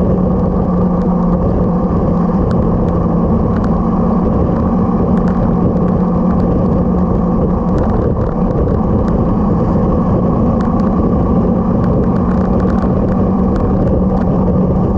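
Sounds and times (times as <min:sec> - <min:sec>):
motorcycle engine: 0:00.0 - 0:14.9
road noise: 0:00.0 - 0:14.9
wind rushing: 0:00.0 - 0:14.9.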